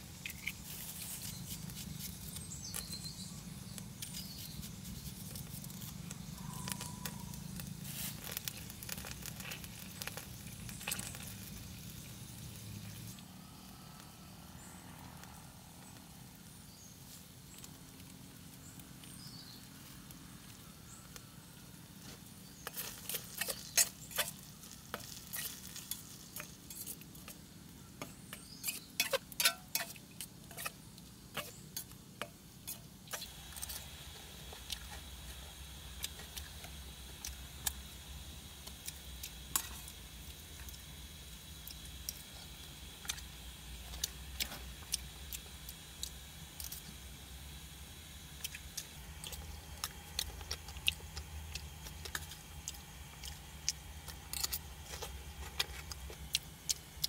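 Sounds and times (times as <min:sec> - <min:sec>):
food sizzling in a pot: 0:00.0 - 0:18.6, 0:22.0 - 0:52.8.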